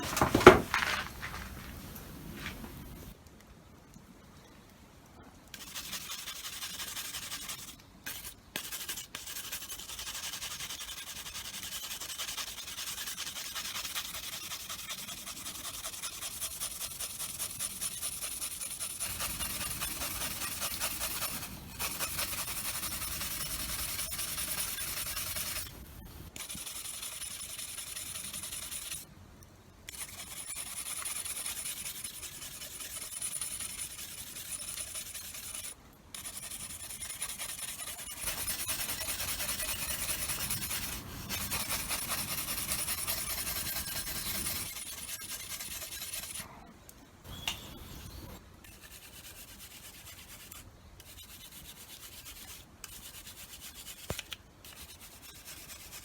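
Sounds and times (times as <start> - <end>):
rubbing and rasping strokes: 0.0 - 3.1, 5.6 - 29.1, 29.9 - 46.5, 47.8 - 56.0.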